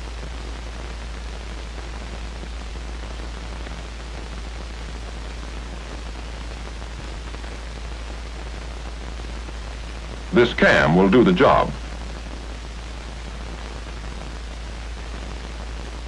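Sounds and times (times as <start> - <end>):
film soundtrack hiss: 0.0 - 16.0.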